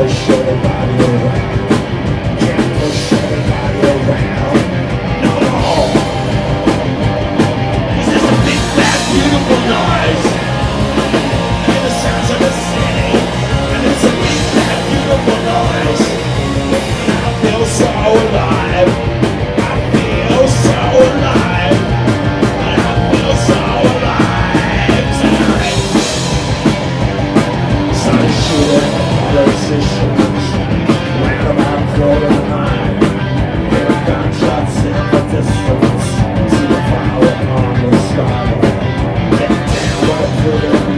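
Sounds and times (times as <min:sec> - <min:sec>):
rock band playing punk live: 0:00.0 - 0:40.9.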